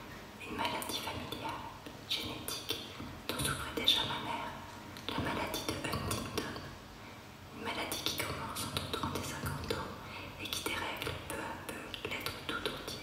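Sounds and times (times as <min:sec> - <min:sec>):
woman whispering: 0:00.4 - 0:06.8, 0:07.5 - 0:13.0.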